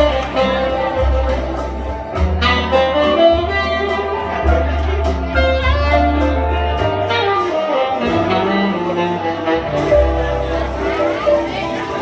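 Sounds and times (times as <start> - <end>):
tenor saxophone melody: 0.0 - 11.6
bass line accompaniment: 0.0 - 12.0.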